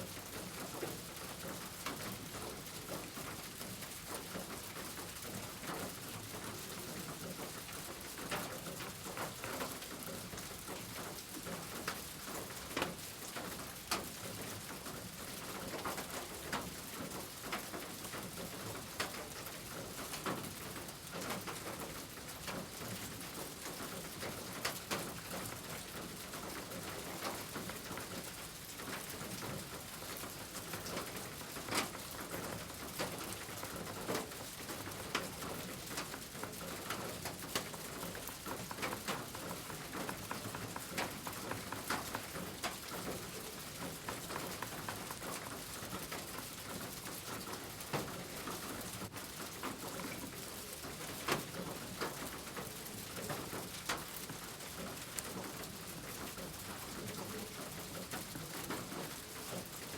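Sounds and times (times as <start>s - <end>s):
steady rain-like hiss: 0.0s - 59.9s.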